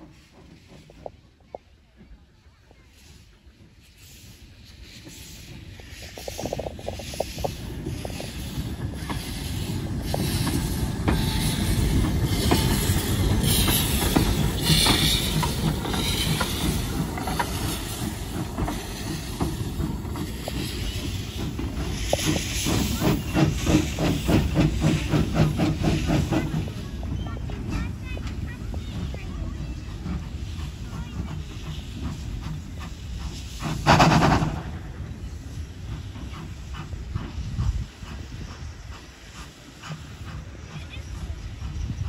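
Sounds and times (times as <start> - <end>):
loud steam hissing: 0.0 - 42.0
rhythmic locomotive exhaust beats: 0.0 - 42.0
steam locomotive working uphill: 0.0 - 42.0.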